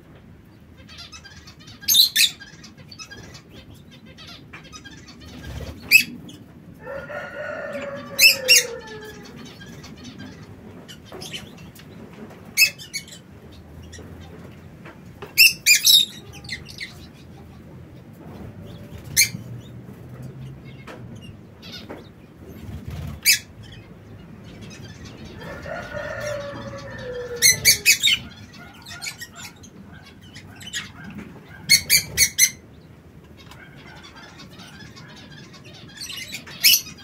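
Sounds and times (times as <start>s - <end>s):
birds making high sharp sounds: 0.4s - 37.0s.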